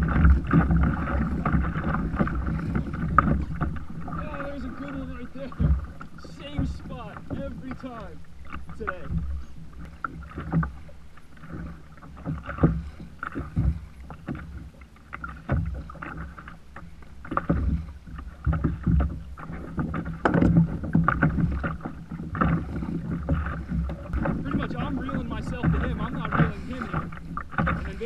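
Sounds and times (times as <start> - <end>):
water splashing against kayak hull: 0.0 - 28.0.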